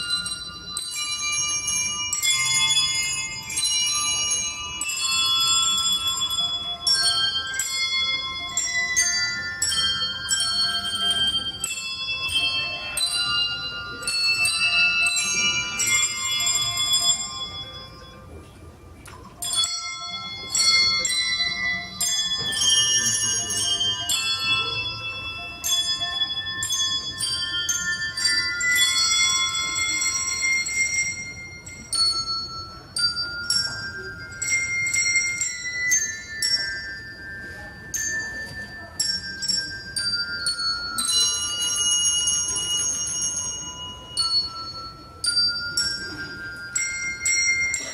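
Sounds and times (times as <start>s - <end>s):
handbells playing a melody: 0.0s - 47.9s.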